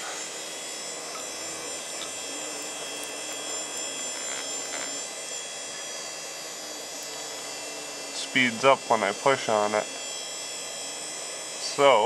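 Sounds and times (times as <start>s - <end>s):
computer fans whirring: 0.0s - 12.0s.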